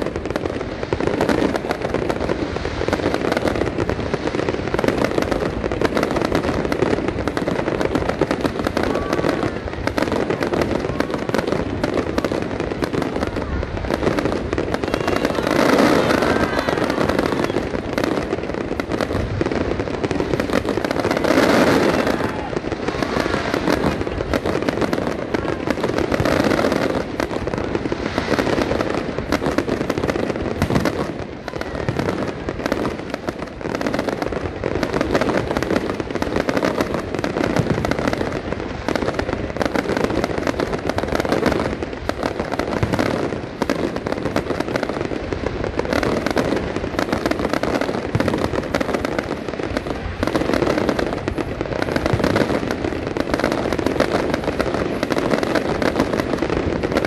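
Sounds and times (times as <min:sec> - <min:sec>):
fireworks crackling: 0:00.0 - 0:57.0.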